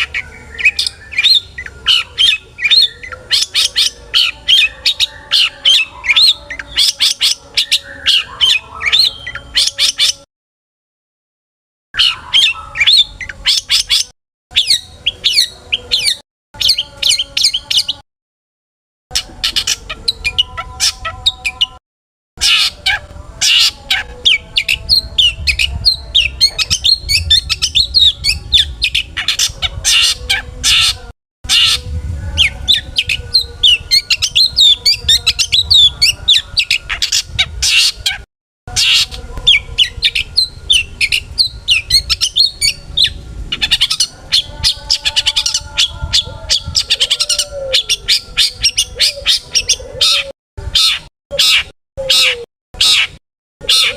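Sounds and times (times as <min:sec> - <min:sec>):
bird chattering song: 0:00.0 - 0:10.2, 0:12.0 - 0:18.0, 0:19.1 - 0:21.8, 0:22.4 - 0:53.9.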